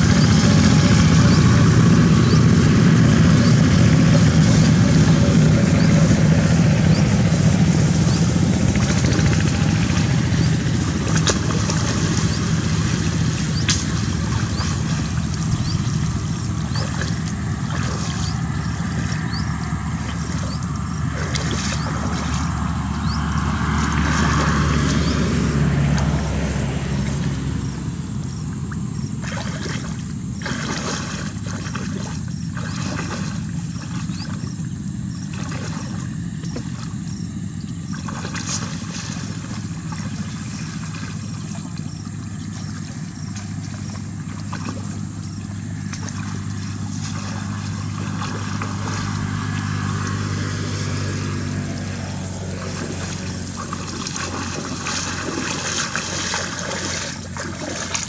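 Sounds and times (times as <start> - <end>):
low motor drone: 0.0 - 58.0
water sloshing and splashing: 0.0 - 58.0.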